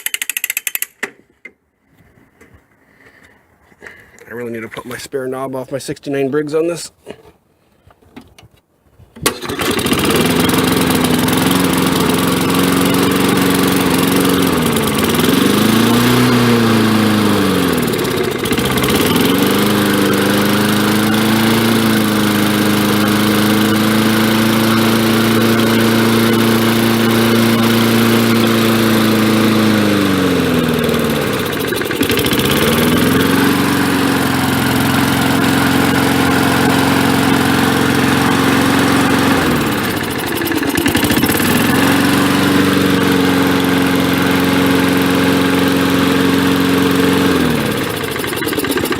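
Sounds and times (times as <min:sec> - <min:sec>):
small engine starting and running: 0:00.0 - 0:01.1, 0:09.2 - 0:48.9.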